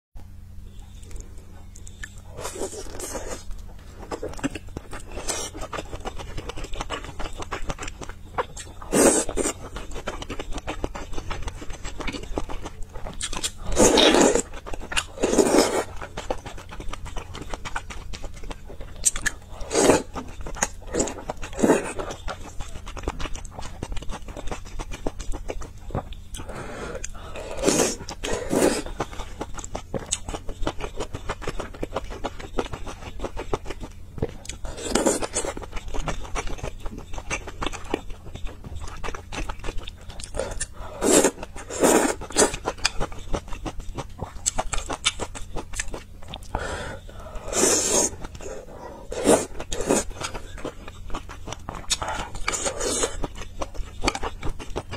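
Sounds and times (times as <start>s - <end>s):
chewing and biting food: 1.0s - 54.9s.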